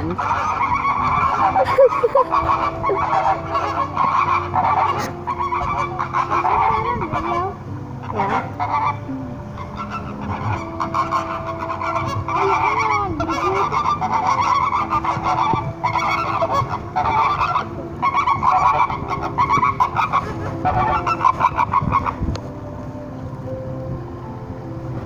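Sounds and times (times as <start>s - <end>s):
flamingos honking: 0.0s - 25.0s.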